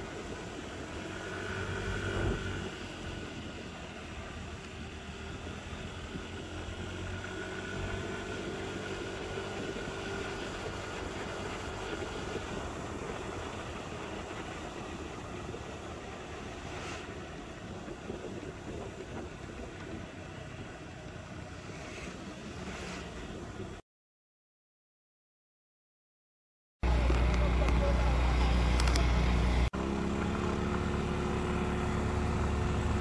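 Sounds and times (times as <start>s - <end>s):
motorcycle engine running: 0.0s - 21.5s, 26.8s - 33.0s
wind and road noise: 0.0s - 23.8s, 26.8s - 33.0s.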